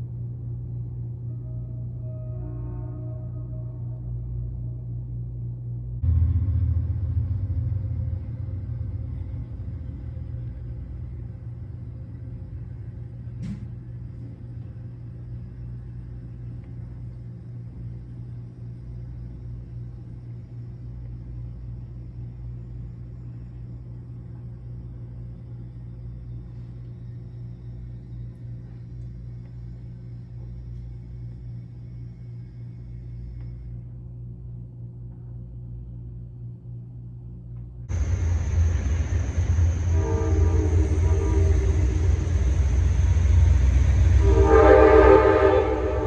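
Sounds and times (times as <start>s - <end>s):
passenger train rumbling past: 0.0s - 33.4s, 37.9s - 46.0s.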